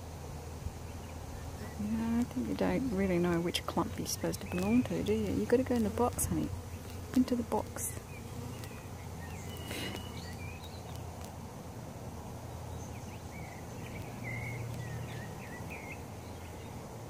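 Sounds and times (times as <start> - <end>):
bees buzzing: 0.0 - 17.0
small birds chirping: 0.8 - 17.0.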